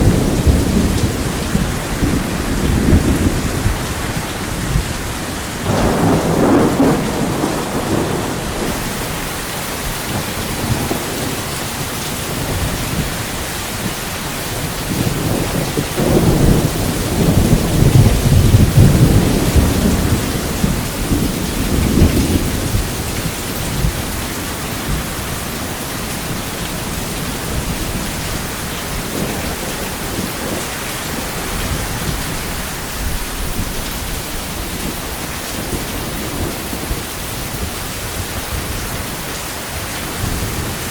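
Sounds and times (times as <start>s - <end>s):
heavy rain: 0.0s - 40.9s
thunder rumbling: 0.0s - 40.9s.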